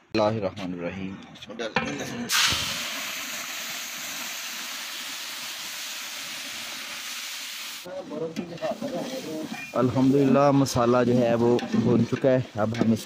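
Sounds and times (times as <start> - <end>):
masala sizzling in a pot: 2.3 - 13.0.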